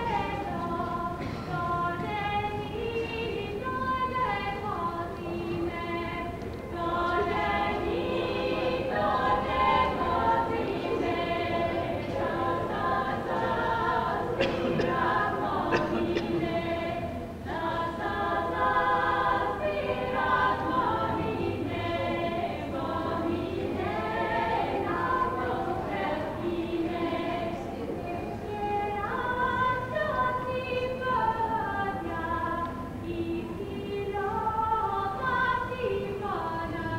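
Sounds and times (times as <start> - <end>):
women singing a cappella: 0.0 - 36.9.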